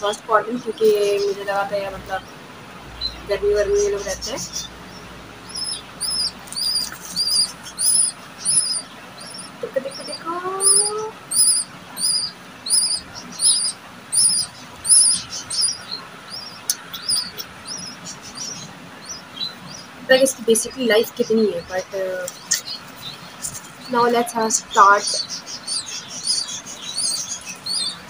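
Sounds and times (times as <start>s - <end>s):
parrot chick chirping: 2.9s - 20.0s, 20.7s - 28.0s.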